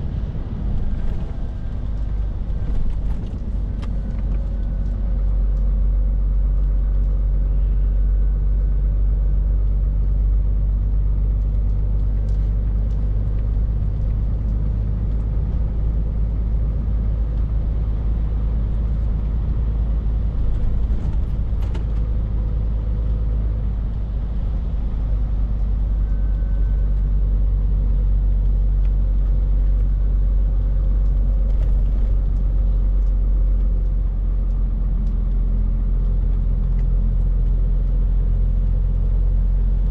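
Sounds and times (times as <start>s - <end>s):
diesel truck engine droning: 0.0s - 39.9s
road rumble: 0.0s - 39.9s.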